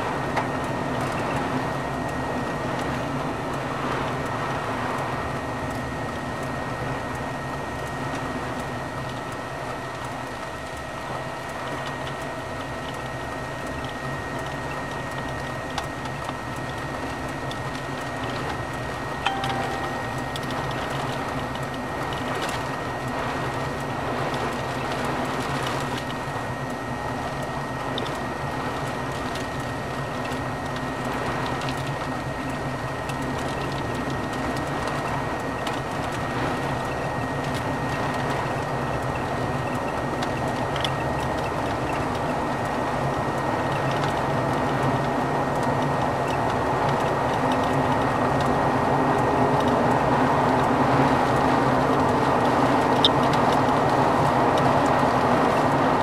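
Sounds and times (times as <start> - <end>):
constant high-pitched tone: 0.0 - 56.0.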